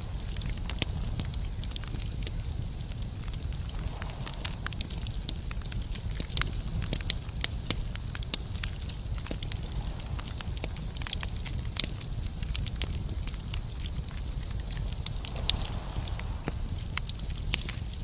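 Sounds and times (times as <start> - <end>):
fire flames rumbling: 0.0 - 18.0
logs crackling and popping: 0.0 - 18.0.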